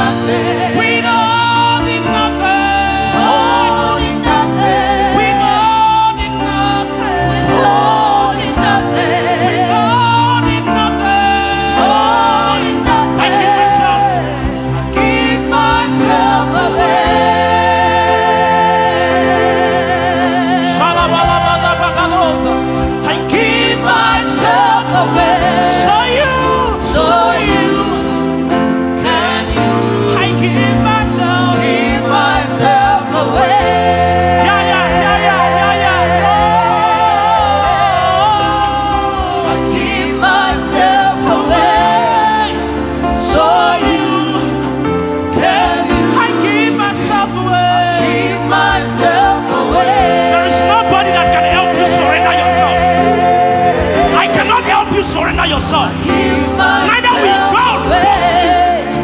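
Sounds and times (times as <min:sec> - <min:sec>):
bass: 0:00.0 - 0:59.0
keyboard chords: 0:00.0 - 0:59.0
sustained instrumental accompaniment: 0:00.0 - 0:59.0
voices singing wordless lines: 0:00.0 - 0:59.0.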